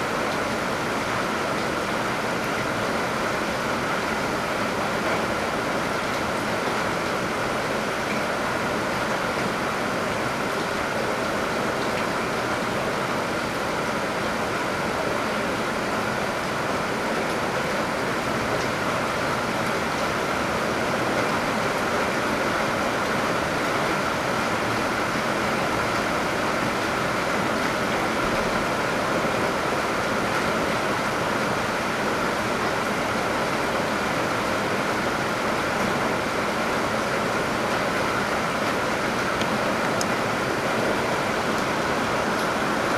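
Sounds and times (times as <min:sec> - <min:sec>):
heavy rain: 0:00.0 - 0:42.9
water rushing from downpipe: 0:00.0 - 0:42.9.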